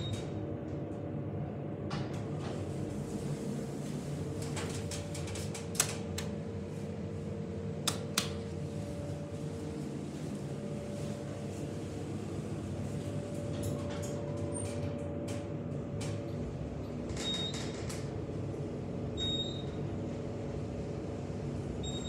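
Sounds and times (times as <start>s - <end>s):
elevator fan and machinery hum: 0.0s - 22.0s.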